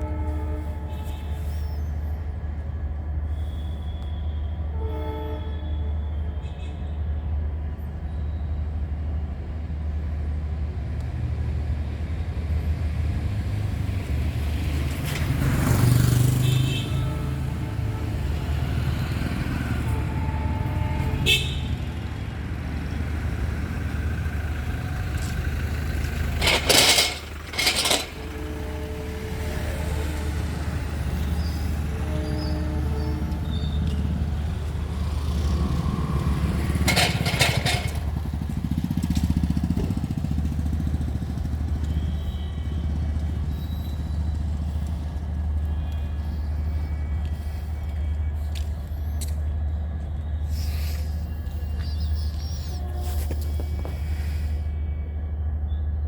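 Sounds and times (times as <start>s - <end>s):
loud rushing train: 0.0s - 49.2s.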